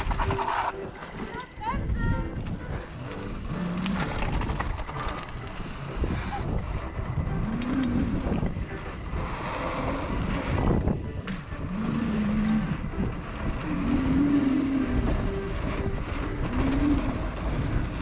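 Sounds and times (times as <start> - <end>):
bike tyres rumbling on trail: 0.0 - 18.0
wind rushing over microphone: 1.6 - 18.0.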